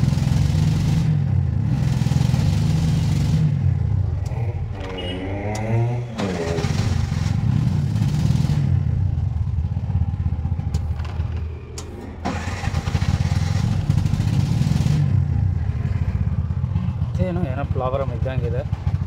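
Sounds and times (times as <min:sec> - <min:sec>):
rickshaw engine pulsing: 0:00.0 - 0:19.0.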